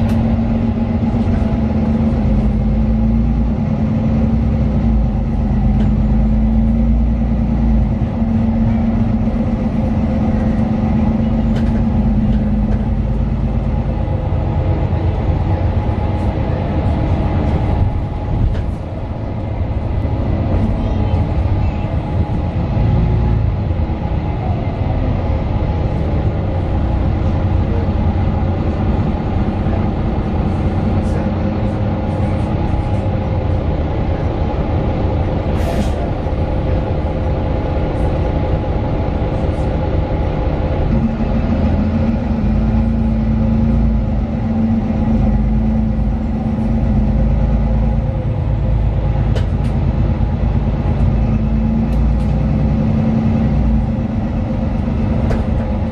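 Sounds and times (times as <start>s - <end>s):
bus engine and road noise: 0.0s - 55.9s.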